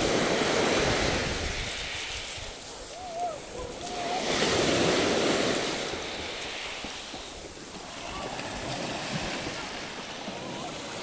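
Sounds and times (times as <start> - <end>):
surf washing onto pebble beach: 0.0 - 11.0
wind on microphone: 0.0 - 11.0.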